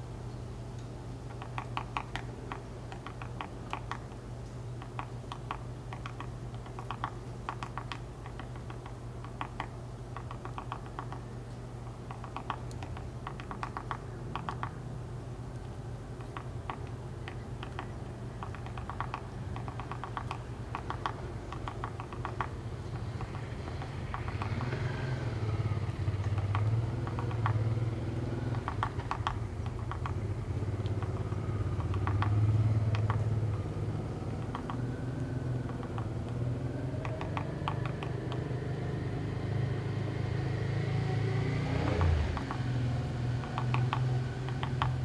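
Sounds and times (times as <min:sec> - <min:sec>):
steady low hum: 0:00.0 - 0:45.0
woodpecker tapping on wood: 0:01.3 - 0:14.8, 0:15.6 - 0:25.0, 0:26.2 - 0:33.6, 0:34.2 - 0:38.5, 0:41.8 - 0:42.7, 0:43.4 - 0:45.0.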